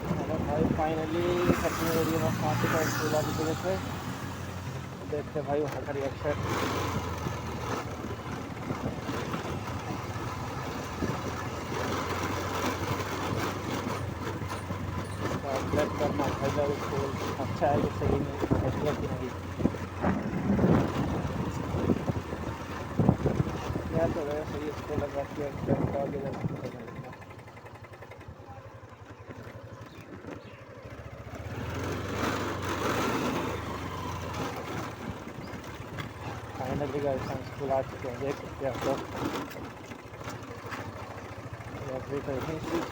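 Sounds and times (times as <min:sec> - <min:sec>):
motorcycle engine running: 0:00.0 - 0:42.9
road and wind noise: 0:00.0 - 0:42.9.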